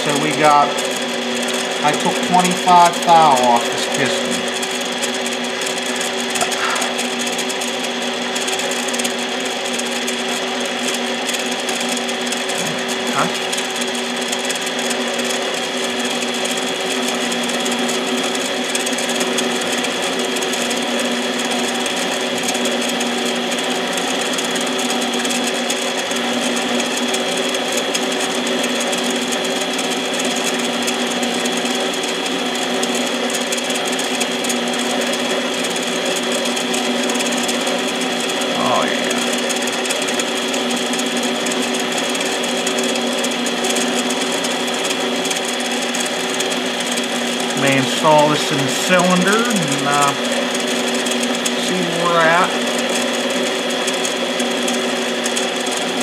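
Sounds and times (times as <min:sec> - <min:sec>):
lathe whining: 0:00.0 - 0:56.0.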